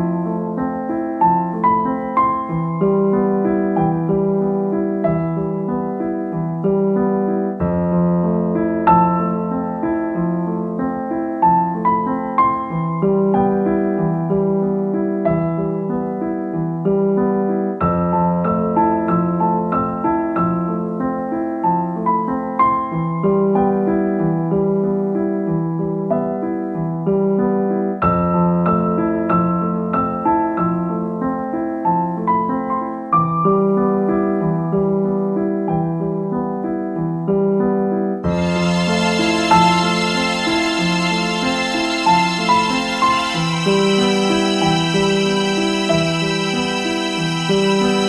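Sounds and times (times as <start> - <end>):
piano music: 0.0 - 48.0.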